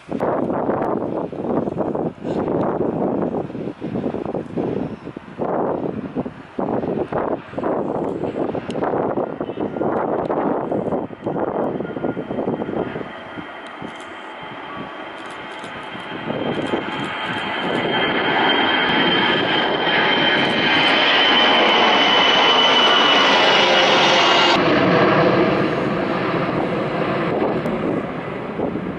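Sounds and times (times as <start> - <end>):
jet engine roar and whine: 0.0 - 28.9
wind buffeting microphone: 0.0 - 28.9.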